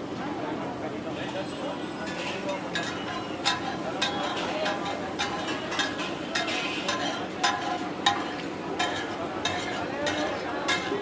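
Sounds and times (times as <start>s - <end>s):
metal spatula scraping a pan: 2.0s - 11.0s.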